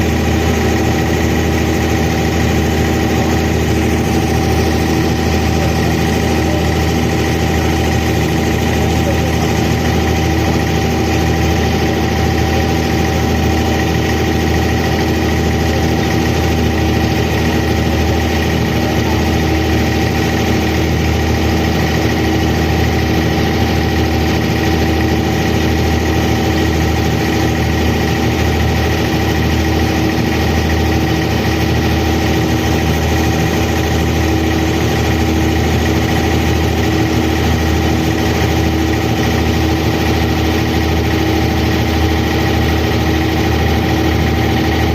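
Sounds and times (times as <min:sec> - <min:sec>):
boat diesel engine droning: 0:00.0 - 0:44.9.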